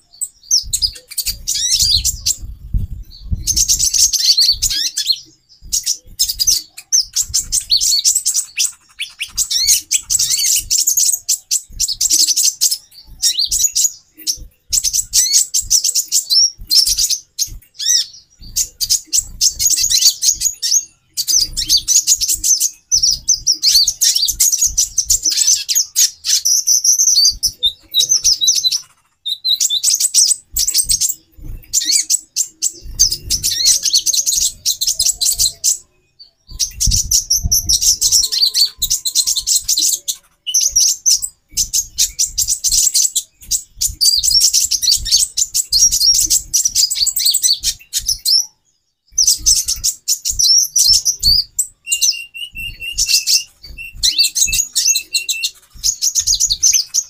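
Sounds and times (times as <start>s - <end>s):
birds twittering and chirping: 0.0s - 57.0s.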